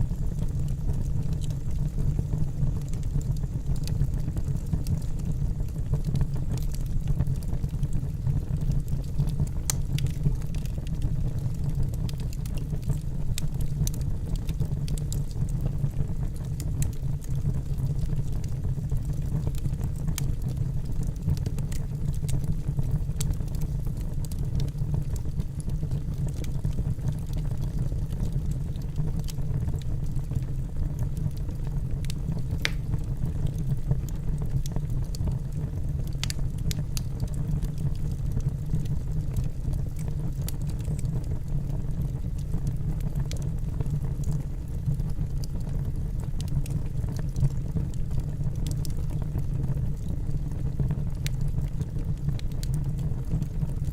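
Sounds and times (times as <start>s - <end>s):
fire crackling and popping: 0.0s - 53.9s
low rumble of flames: 0.0s - 53.9s.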